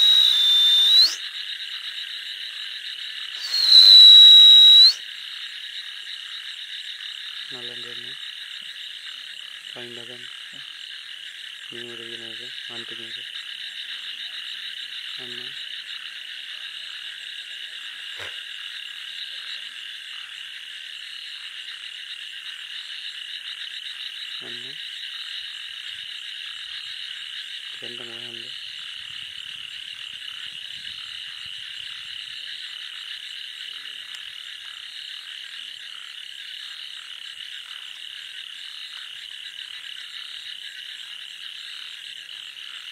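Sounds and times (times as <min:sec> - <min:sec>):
high-pitched frog chorus: 0:00.0 - 0:42.9
deep frog croaks: 0:05.1 - 0:42.9.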